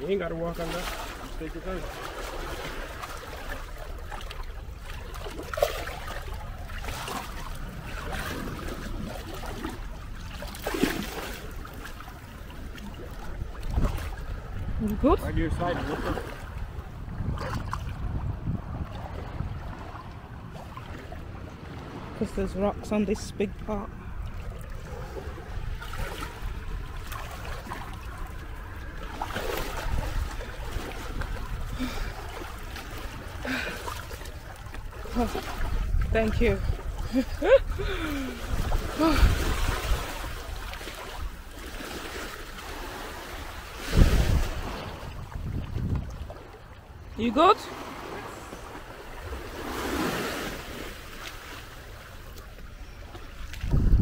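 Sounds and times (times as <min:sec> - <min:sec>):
seawater lapping against stone wall: 0:00.0 - 0:54.0
wading through sloshing water: 0:00.0 - 0:54.0
wind rumble on microphone: 0:01.1 - 0:41.6, 0:42.4 - 0:47.2, 0:52.7 - 0:54.0.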